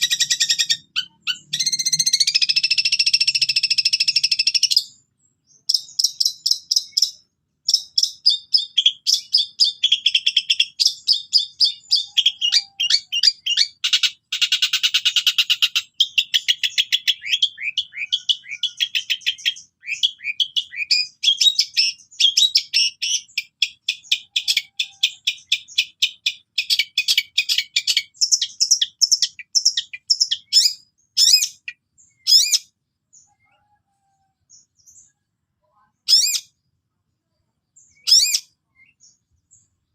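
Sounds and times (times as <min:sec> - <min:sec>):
bird chattering song with trills: 0:00.0 - 0:36.6, 0:37.7 - 0:39.9.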